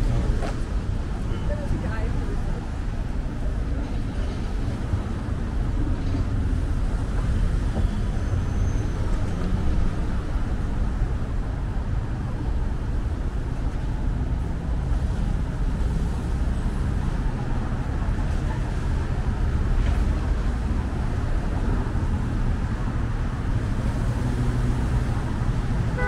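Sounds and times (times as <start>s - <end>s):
cars passing on street: 0.0s - 26.0s.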